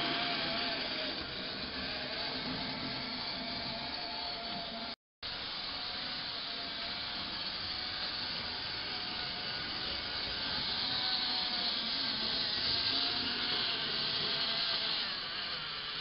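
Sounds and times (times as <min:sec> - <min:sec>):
model tram motor whirring: 0:00.0 - 0:16.0.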